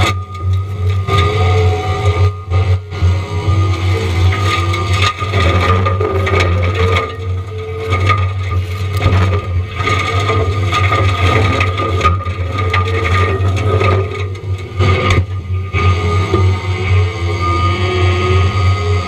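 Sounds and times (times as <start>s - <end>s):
wood cracking and crunching: 0.0s - 16.5s
machine hum: 0.0s - 19.0s.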